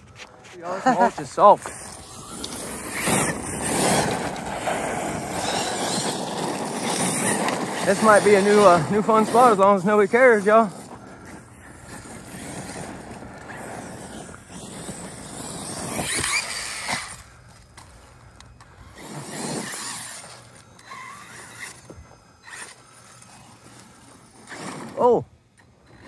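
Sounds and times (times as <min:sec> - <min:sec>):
tyres churning mulch: 0:00.0 - 0:26.0
electric motor whining: 0:00.8 - 0:26.0.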